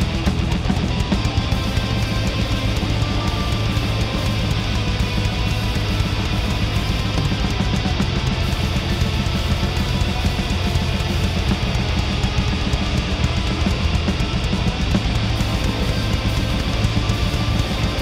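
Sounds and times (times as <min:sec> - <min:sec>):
bass guitar: 0:00.0 - 0:18.0
distorted electric guitars: 0:00.0 - 0:18.0
drums: 0:00.0 - 0:18.0.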